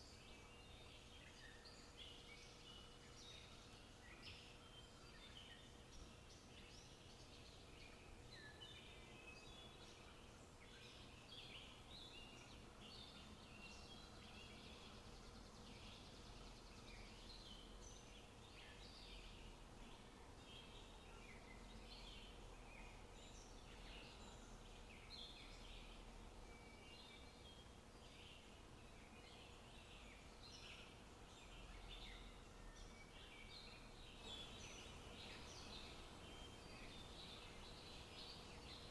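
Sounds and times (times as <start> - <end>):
low background hiss: 0.0 - 38.9
songbirds chirping: 0.0 - 38.9.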